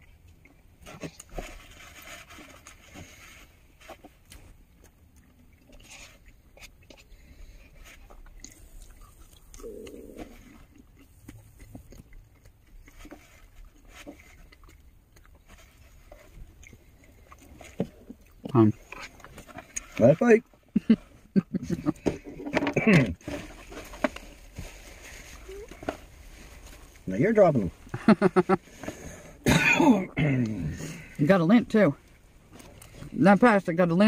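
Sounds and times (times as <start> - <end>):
chewing and crunching: 0.0 - 33.2.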